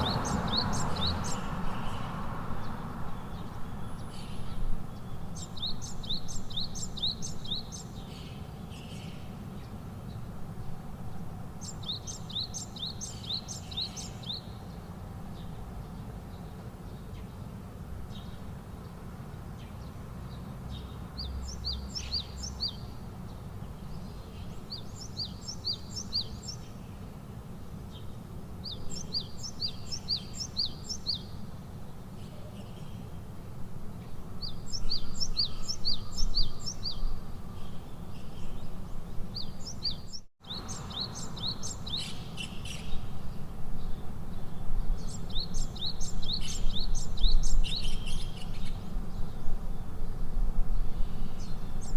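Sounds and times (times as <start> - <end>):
songbird singing high chirps: 0.0 - 27.0, 27.8 - 33.2, 33.9 - 51.9.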